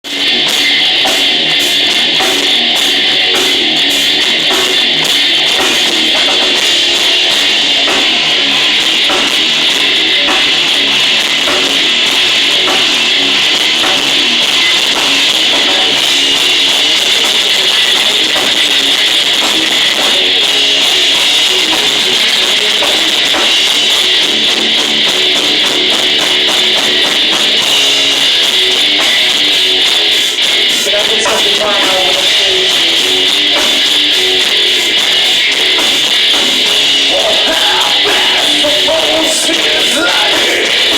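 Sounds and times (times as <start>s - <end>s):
electric guitar: 0.0s - 40.9s
drum hits: 0.1s - 40.9s.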